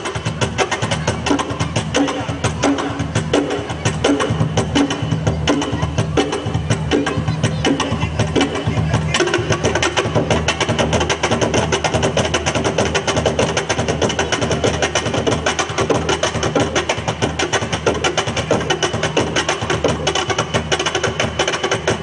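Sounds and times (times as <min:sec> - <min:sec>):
hand percussion fast rhythm: 0:00.0 - 0:22.0.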